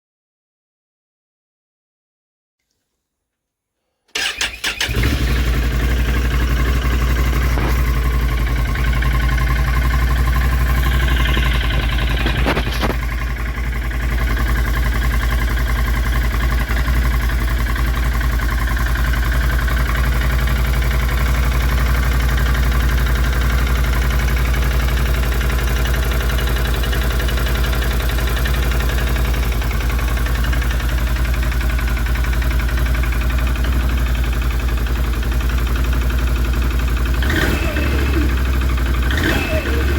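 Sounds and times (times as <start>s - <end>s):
engine starting and idling: 4.1s - 39.9s.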